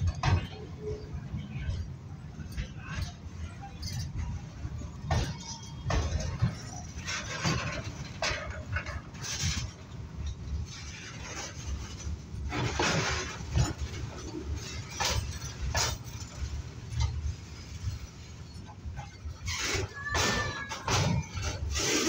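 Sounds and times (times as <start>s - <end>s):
metallic clanks and clatters: 0.0s - 22.0s
train wheels rumbling on rails: 0.0s - 22.0s.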